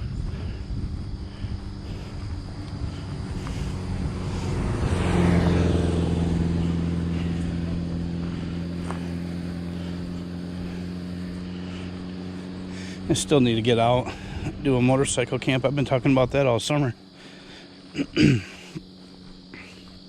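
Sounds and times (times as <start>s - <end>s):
passing vehicle engine: 0.0s - 20.0s.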